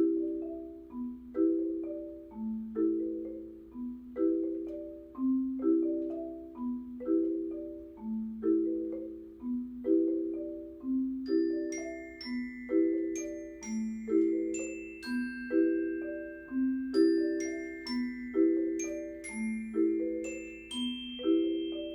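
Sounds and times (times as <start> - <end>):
bright glockenspiel-like notes: 0.0 - 21.9
mallet percussion waltz: 0.0 - 21.9.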